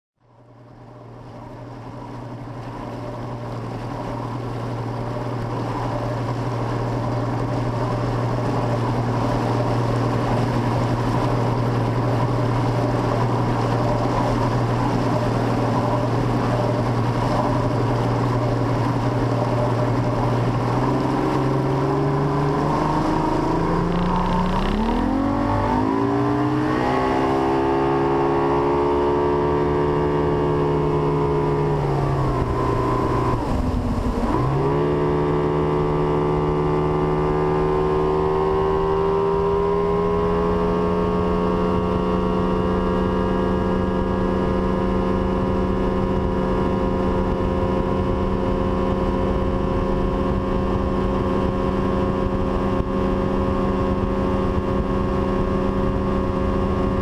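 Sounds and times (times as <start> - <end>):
outboard motor running: 0.2 - 57.0.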